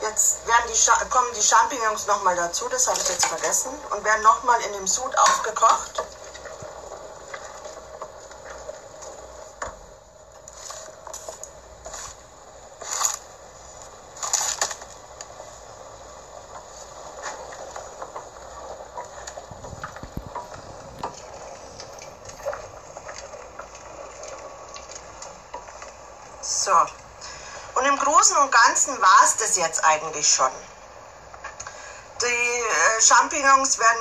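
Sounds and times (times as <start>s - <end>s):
brine bubbling in a pot: 0.0s - 34.0s.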